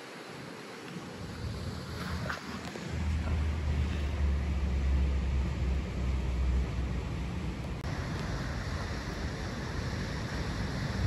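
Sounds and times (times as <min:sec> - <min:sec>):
river water rushing: 0:00.0 - 0:11.0
wind buffeting microphone: 0:01.0 - 0:11.0.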